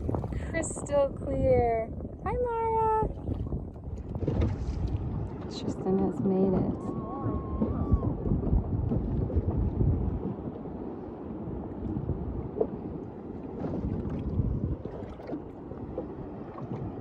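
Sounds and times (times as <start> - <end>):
water sloshing against hull: 0.0 - 17.0
wind on microphone: 0.0 - 17.0.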